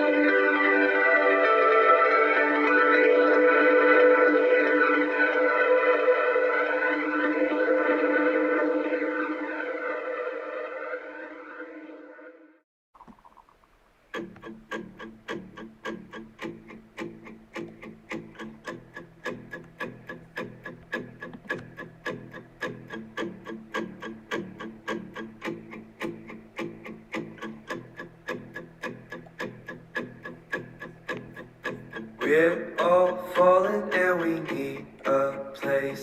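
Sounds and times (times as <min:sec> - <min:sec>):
plucked guitar notes: 0:00.0 - 0:09.9, 0:14.1 - 0:36.0.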